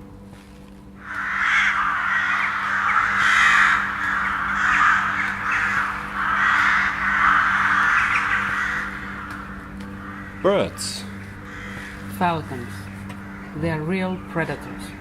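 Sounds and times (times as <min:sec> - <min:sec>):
flock of birds calling: 0:01.0 - 0:15.0.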